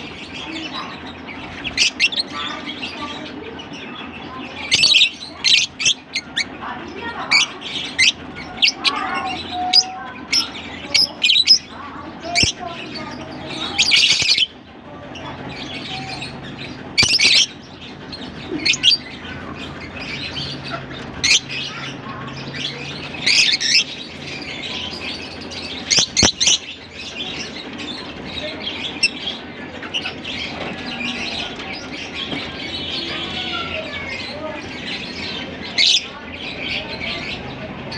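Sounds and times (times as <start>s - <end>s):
lovebirds chattering and chirping: 0.0s - 37.9s.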